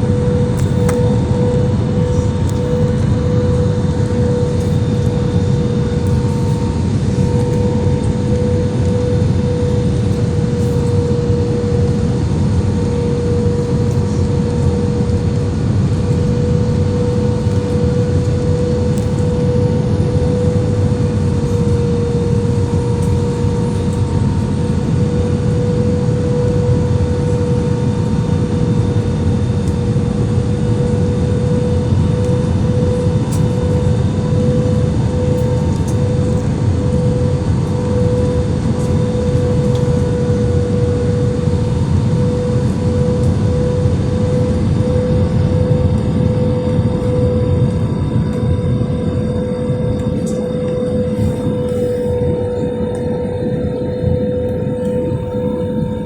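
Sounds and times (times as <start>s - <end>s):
constant tone: 0.0s - 27.6s, 29.0s - 56.0s
airliner cabin engine and air noise: 0.0s - 56.0s.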